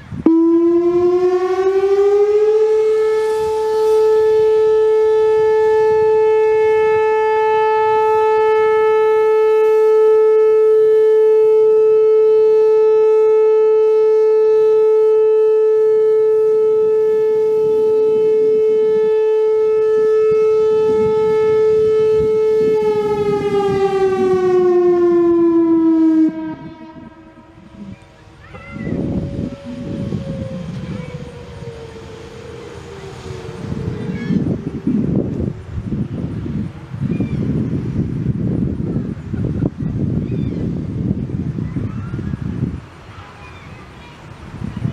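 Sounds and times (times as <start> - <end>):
electronic warning siren: 0.1 - 39.2.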